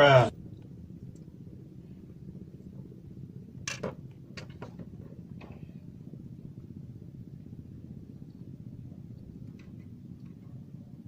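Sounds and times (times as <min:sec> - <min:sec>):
faint low rumble: 0:00.0 - 0:11.0.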